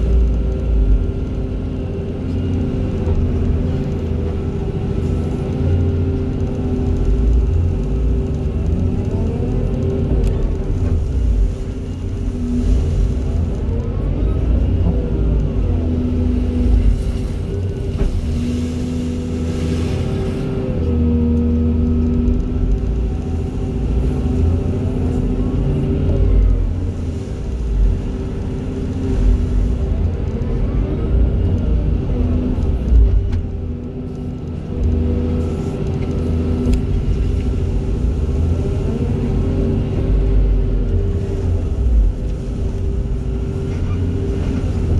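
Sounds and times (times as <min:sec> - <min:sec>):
excavator diesel engine rumble: 0:00.0 - 0:44.9.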